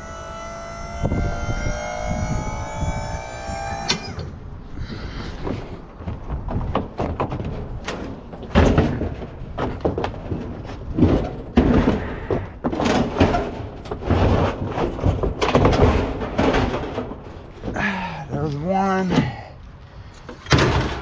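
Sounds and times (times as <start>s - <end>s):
metal bangs and scraping: 0.0s - 19.4s, 20.2s - 21.0s.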